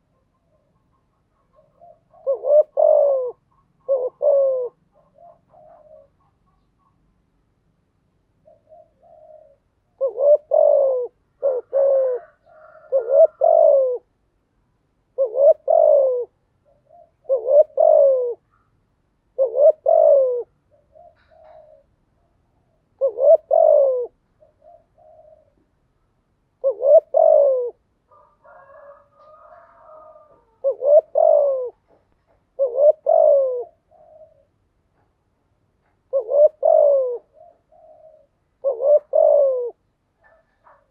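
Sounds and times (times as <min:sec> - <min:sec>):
dove cooing: 0:00.0 - 0:07.0, 0:08.4 - 0:14.2, 0:15.1 - 0:18.7, 0:19.3 - 0:25.8, 0:26.5 - 0:35.1, 0:35.8 - 0:40.9.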